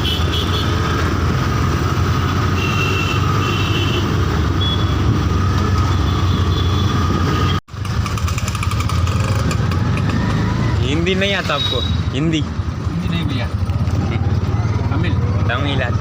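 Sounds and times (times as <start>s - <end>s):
road noise: 0.0s - 16.0s
vehicle engine rumble: 3.2s - 16.0s.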